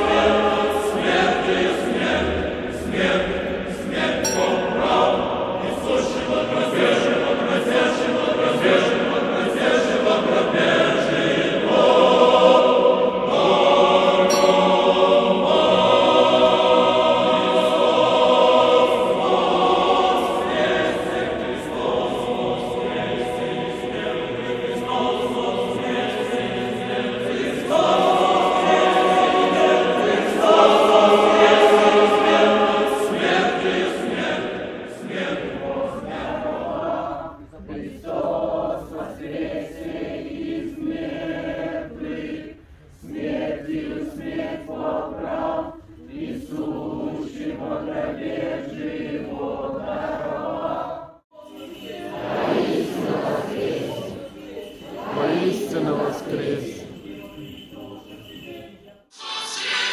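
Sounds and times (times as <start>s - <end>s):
choir singing church chant: 0.0s - 59.9s.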